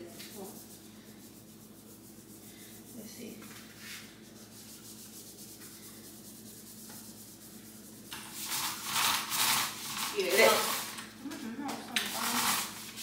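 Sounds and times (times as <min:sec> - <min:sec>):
paint roller rubbing on wall: 0:00.0 - 0:11.0, 0:11.8 - 0:13.0.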